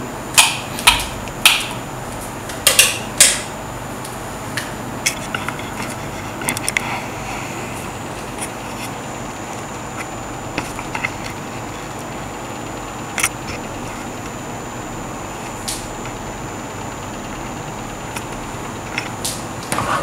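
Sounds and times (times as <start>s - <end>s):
faint high whine: 1.2s - 20.0s.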